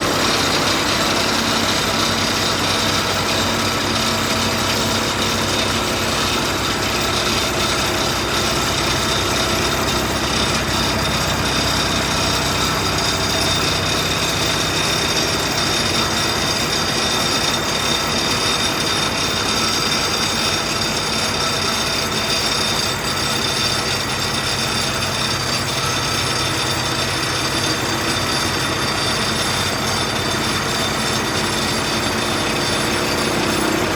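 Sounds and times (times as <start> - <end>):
drilling machine running: 0.0 - 33.9.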